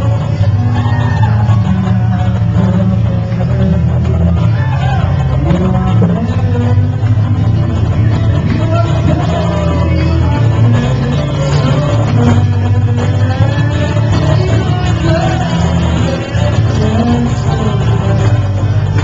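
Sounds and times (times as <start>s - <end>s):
guitar: 0.0s - 19.0s
person singing: 0.0s - 19.0s
steady bass: 0.0s - 19.0s.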